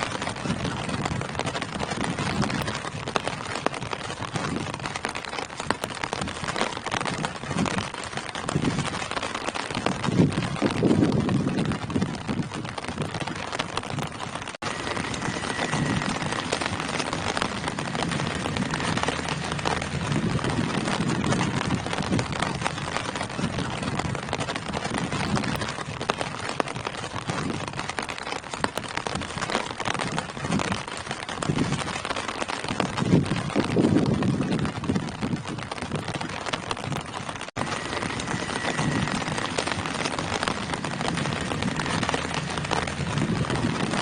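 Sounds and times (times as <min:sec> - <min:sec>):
rain falling on leaves: 0:00.0 - 0:44.0.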